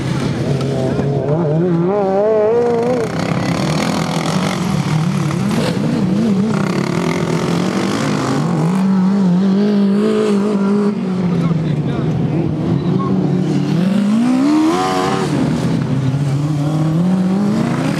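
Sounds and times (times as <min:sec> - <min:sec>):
racing lawn mower engines: 0:00.0 - 0:17.9.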